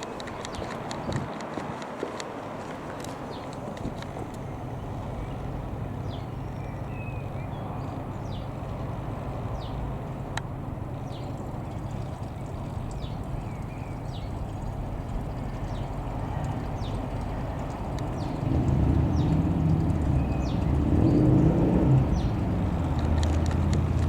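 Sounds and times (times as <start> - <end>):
small birds chirping: 0.0 - 1.3, 3.0 - 24.0
light aircraft engine drone: 2.2 - 24.0.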